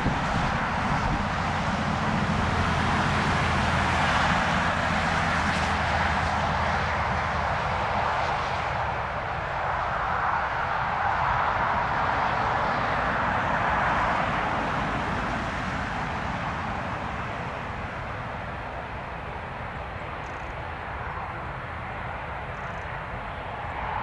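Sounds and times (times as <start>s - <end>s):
propeller aircraft engines: 0.0s - 24.0s.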